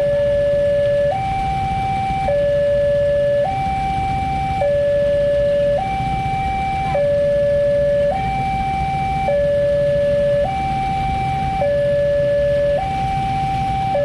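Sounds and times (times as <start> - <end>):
level crossing alarm two-tone: 0.0 - 14.0.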